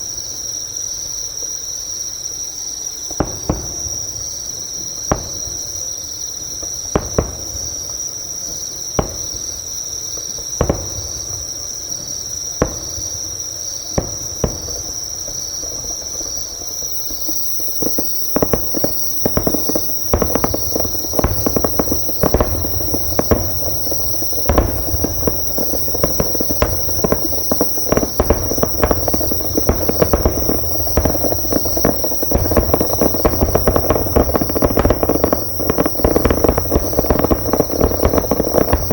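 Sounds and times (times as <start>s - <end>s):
insects chirping: 0.0s - 38.9s
distant fireworks bursting: 3.1s - 38.9s.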